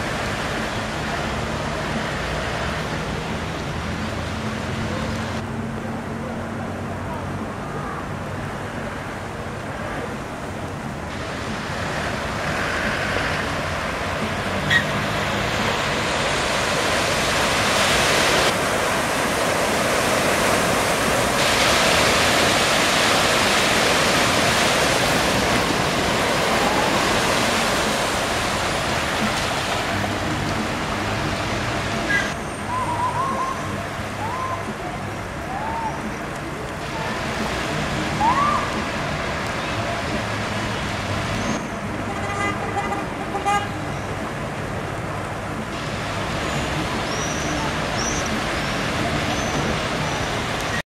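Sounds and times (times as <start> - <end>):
cars ploughing through deep water: 0.0 - 50.8
heavy rain: 0.0 - 50.8.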